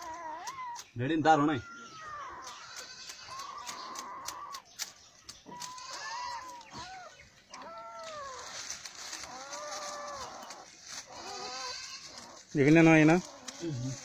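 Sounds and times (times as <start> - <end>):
puppy whining and whimpering: 0.0 - 4.7, 5.5 - 12.5.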